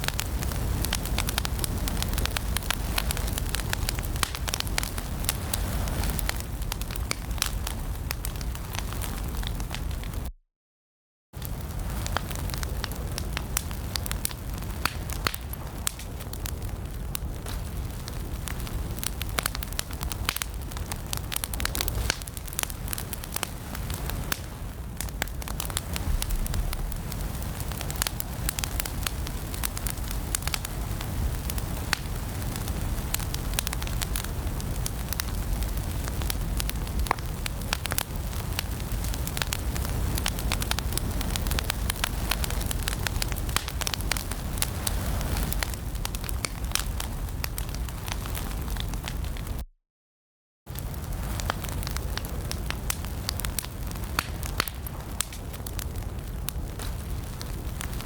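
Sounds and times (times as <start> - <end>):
wood fire crackling: 0.0 - 10.3, 11.4 - 49.6, 50.7 - 58.0.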